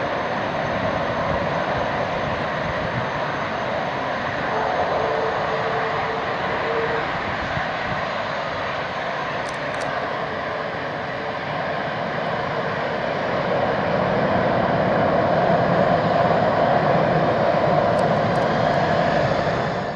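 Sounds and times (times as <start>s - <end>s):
jet engine roar: 0.0s - 19.9s.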